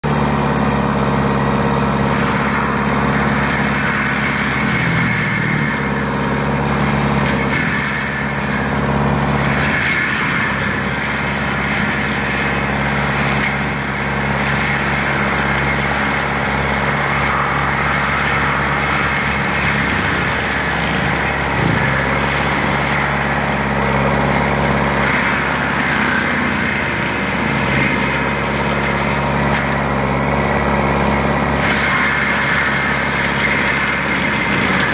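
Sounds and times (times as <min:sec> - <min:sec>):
mulcher grinding brush: 0:00.0 - 0:34.9
tracked vehicle engine under load: 0:00.0 - 0:34.9.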